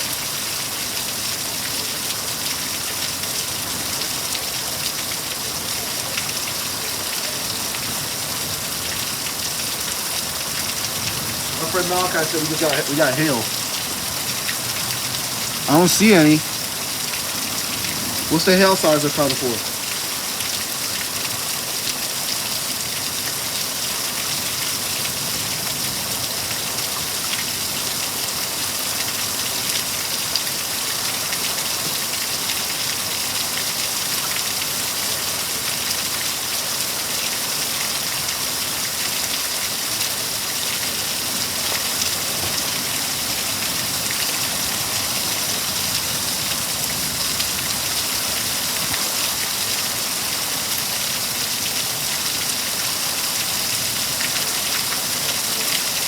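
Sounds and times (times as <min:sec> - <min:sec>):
steady heavy rain hiss: 0:00.0 - 0:56.0.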